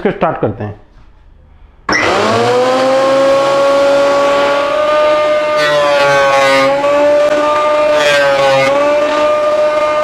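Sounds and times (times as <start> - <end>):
planer motor whining: 1.9 - 10.0.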